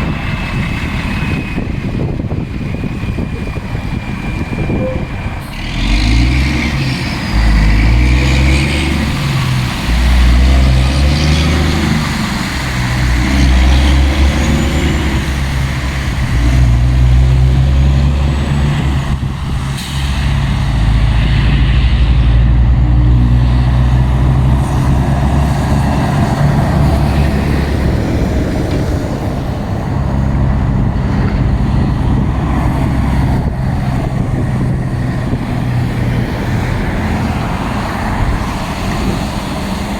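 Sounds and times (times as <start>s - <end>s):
diesel truck engine accelerating: 0.0s - 39.9s.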